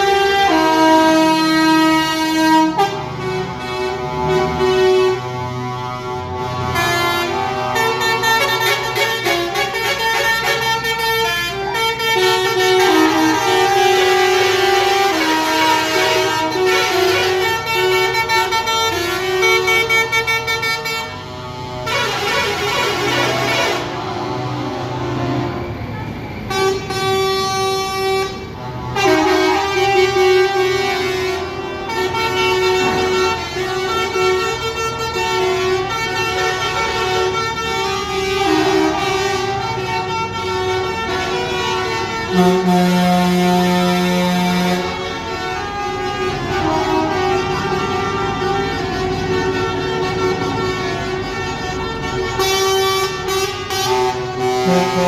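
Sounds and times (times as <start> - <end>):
truck horns honking: 0.0 - 55.0.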